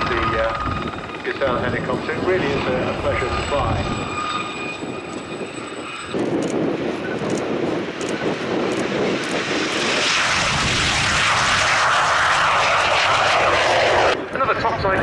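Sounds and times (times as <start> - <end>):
helicopter turbine whine: 0.0 - 15.0
jet flying low pass: 0.0 - 15.0.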